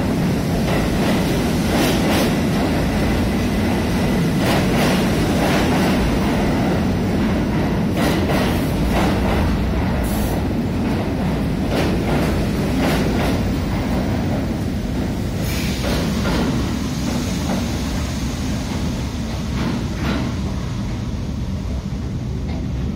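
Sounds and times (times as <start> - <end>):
subway train rumbling past: 0.0 - 22.9.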